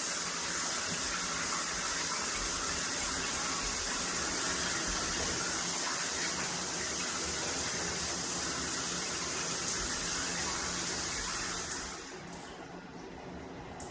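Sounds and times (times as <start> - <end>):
shower water spraying: 0.0 - 12.5.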